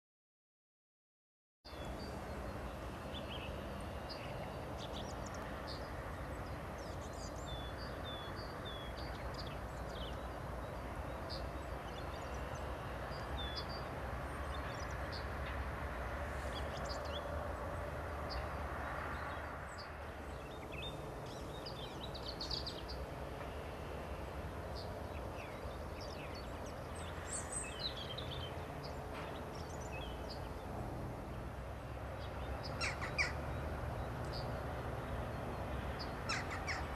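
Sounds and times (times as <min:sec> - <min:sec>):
small birds chirping: 0:01.7 - 0:15.7, 0:16.3 - 0:31.4, 0:32.1 - 0:36.9.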